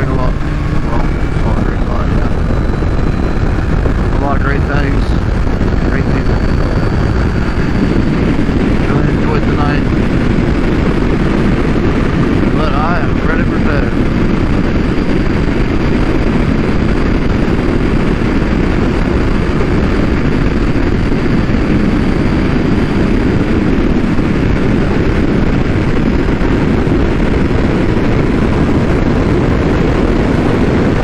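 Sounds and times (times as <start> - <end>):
motorcycle engine: 0.0 - 31.0
wind rushing: 0.0 - 31.0.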